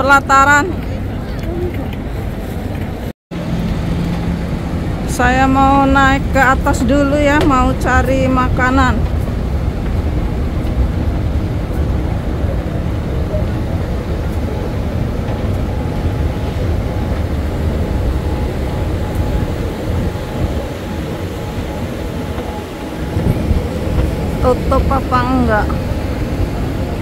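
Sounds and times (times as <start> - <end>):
escalator rumble: 0.0 - 27.0.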